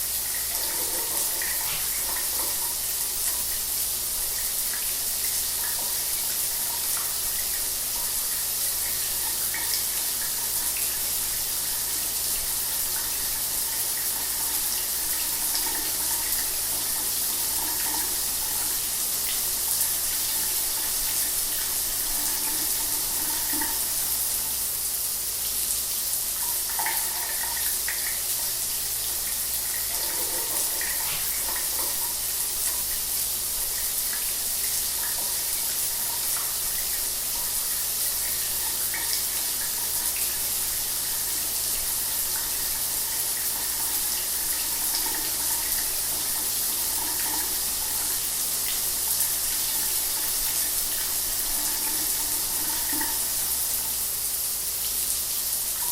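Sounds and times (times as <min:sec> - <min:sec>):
shower water running: 0:00.0 - 0:55.9.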